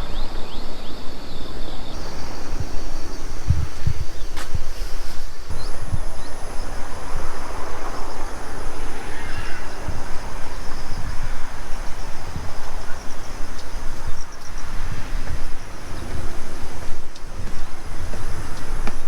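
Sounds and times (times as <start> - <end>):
faint insect chirps: 1.9 - 19.0
wind buffeting microphone: 1.9 - 19.0
high insect drone: 2.0 - 19.0.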